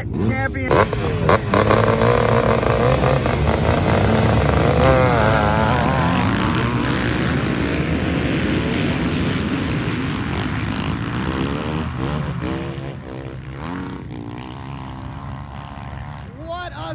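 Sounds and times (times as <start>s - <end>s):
motocross bike engines revving: 0.0s - 16.9s.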